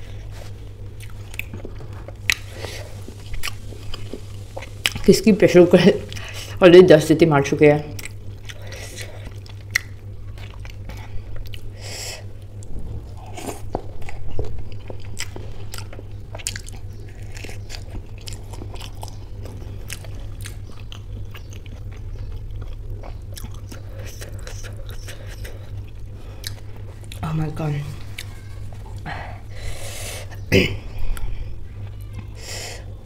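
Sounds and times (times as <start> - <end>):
person chewing food: 0.0 - 5.1, 7.9 - 27.3, 28.0 - 33.0.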